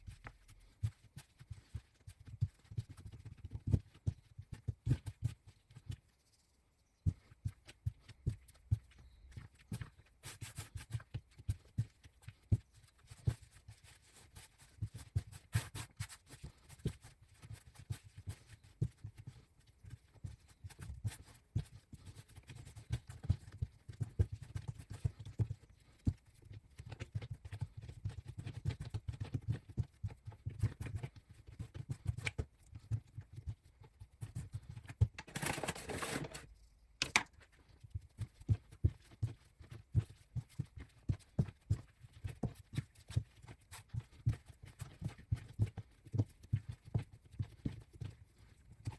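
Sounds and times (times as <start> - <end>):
hands kneading bread dough: 0.0 - 48.9.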